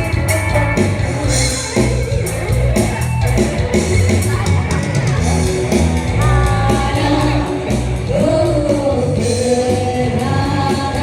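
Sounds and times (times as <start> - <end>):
band accompaniment: 0.0 - 11.0.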